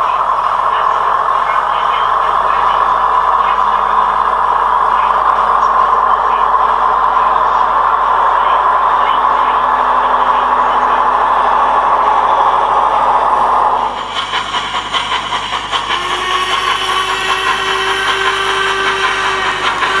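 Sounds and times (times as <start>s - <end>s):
model diesel train engine running: 0.0s - 20.0s
model steam locomotive beats: 0.0s - 20.0s
steady tone: 0.0s - 20.0s.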